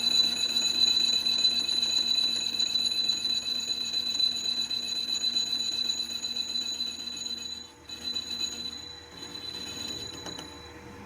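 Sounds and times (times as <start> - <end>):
workshop machinery whining: 0.0 - 11.0.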